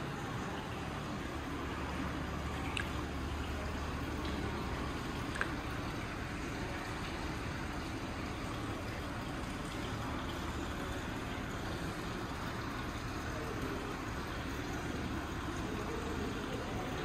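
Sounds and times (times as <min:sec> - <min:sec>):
faint indistinct voices: 0:00.0 - 0:17.0
indoor hall hum and hiss: 0:00.0 - 0:17.0.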